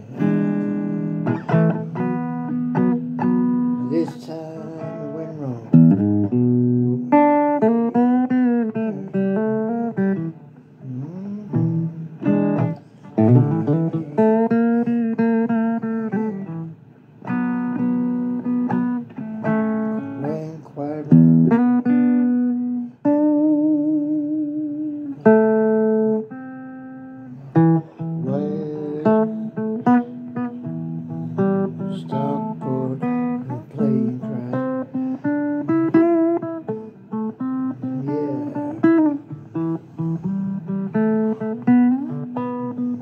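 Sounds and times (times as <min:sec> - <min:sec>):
slow blues guitar notes: 0:00.0 - 0:43.0.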